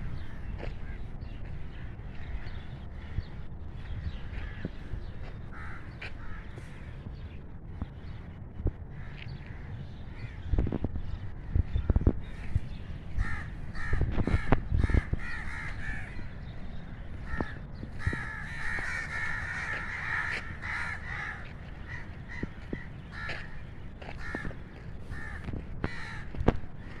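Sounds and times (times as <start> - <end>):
crows cawing: 0.0 - 7.3, 8.9 - 10.7, 11.4 - 27.0.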